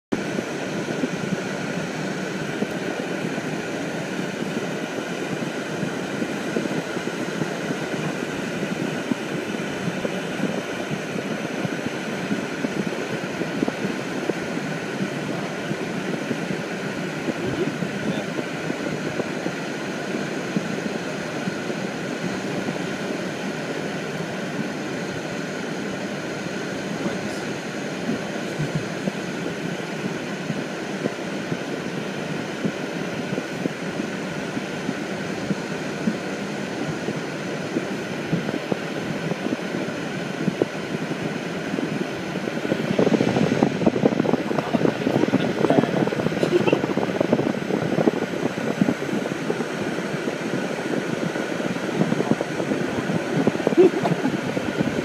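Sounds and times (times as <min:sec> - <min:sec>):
steady rushing noise: 0:00.1 - 0:55.0.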